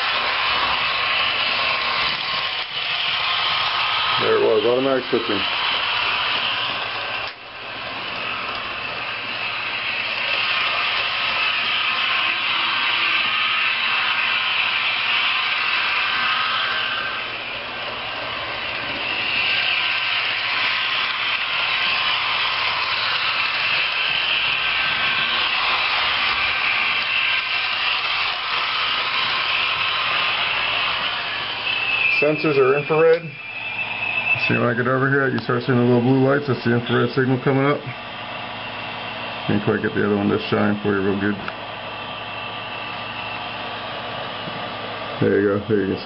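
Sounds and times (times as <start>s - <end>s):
model trains whirring and rumbling: 0.0s - 46.0s.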